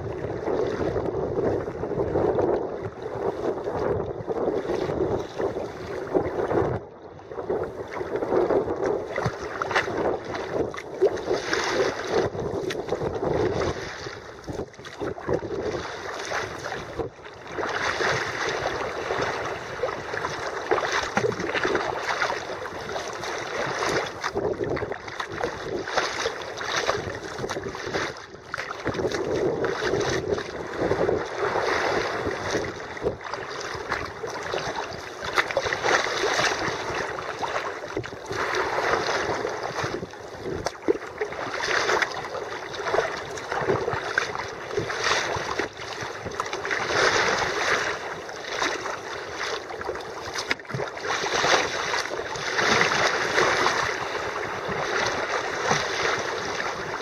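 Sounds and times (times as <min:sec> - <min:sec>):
water splashing against kayak hull: 0:00.0 - 0:57.0.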